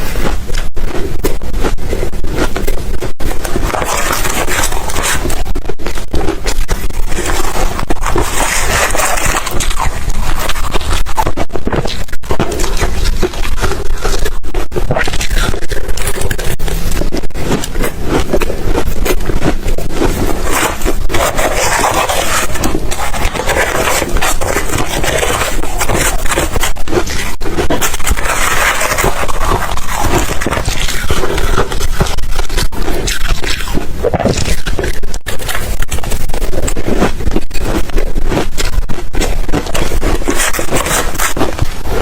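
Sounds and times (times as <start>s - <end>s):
ice cubes crunching in mouth: 0.0s - 42.0s.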